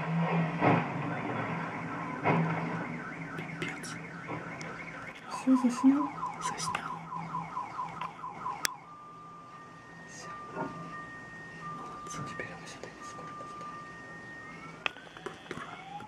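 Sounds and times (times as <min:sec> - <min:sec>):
car alarm electronic warble: 0:00.0 - 0:16.0.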